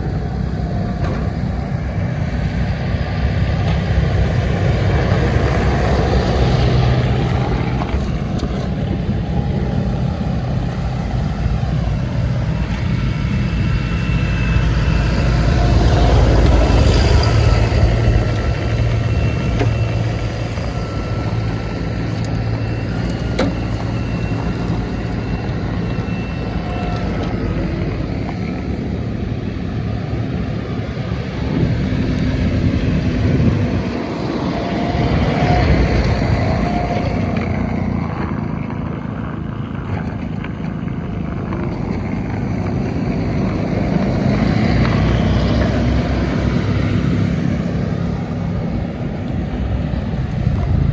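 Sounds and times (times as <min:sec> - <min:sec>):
diesel tractor engine running: 0:00.0 - 0:50.9.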